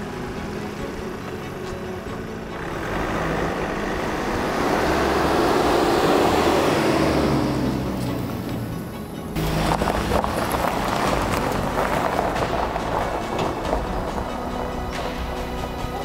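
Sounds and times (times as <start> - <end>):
truck engine driving past: 0.0 - 16.0
tyres crunching on gravel: 0.0 - 16.0.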